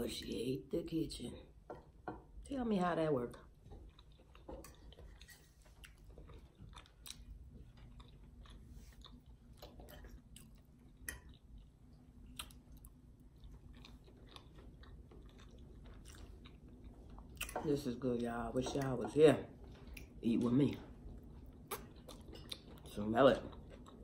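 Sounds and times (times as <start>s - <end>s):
faint chewing: 3.3s - 24.0s.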